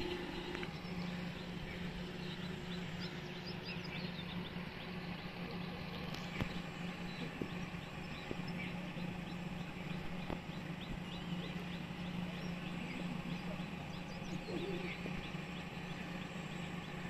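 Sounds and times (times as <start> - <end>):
distant machinery hum: 0.0 - 17.0
faint bird chirps: 0.0 - 17.0.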